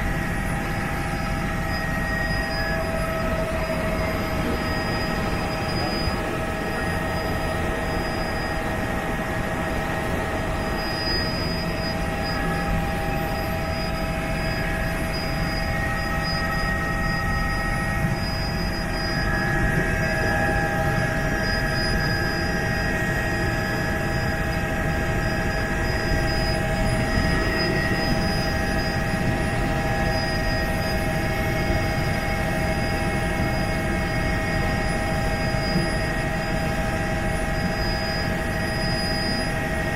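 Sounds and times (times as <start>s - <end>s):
helicopter rotor and engine rumble: 0.0s - 39.9s
high whine: 0.0s - 39.9s.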